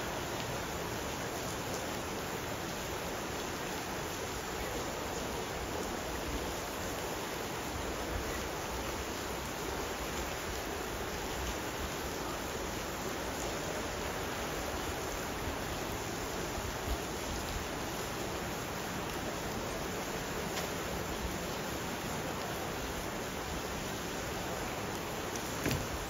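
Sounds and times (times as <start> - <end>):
fast-flowing river rushing: 0.0 - 26.0.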